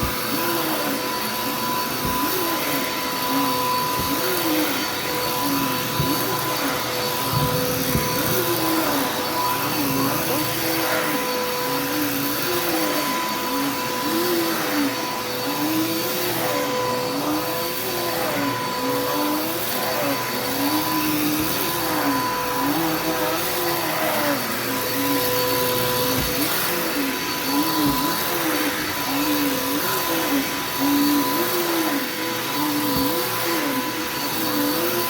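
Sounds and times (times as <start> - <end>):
vacuum cleaner on carpet: 0.0 - 35.0.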